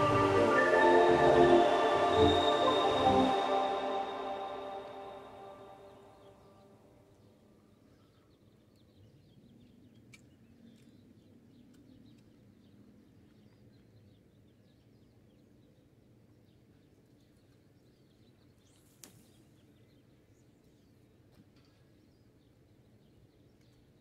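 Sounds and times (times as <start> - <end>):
faint outdoor ambience: 0.0 - 24.0.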